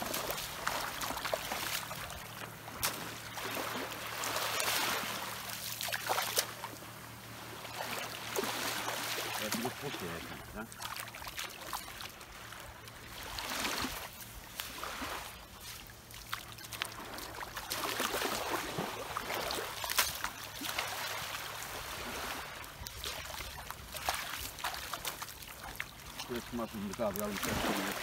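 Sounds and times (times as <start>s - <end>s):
sea water sloshing around legs: 0.0s - 28.0s
small splashes: 0.0s - 28.0s.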